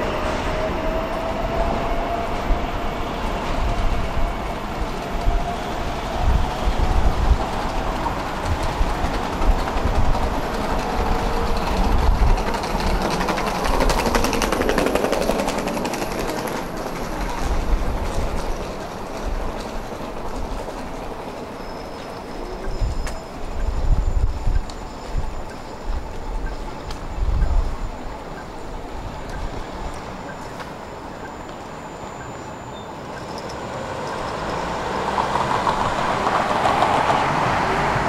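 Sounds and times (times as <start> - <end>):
electric tram rolling past: 0.0 - 38.0
wheels rattling over track: 0.0 - 38.0.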